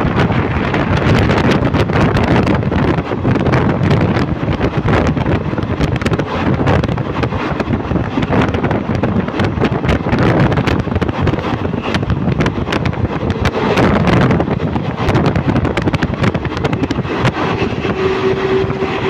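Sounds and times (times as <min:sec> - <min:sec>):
train wheels rumbling on rails: 0:00.0 - 0:19.0
wind buffeting microphone: 0:00.0 - 0:19.0.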